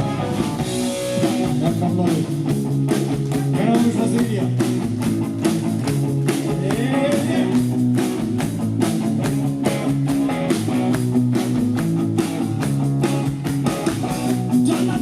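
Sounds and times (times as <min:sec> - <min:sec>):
bass guitar: 0:00.0 - 0:15.0
electric guitar: 0:00.0 - 0:15.0
steady drum beat: 0:00.0 - 0:15.0.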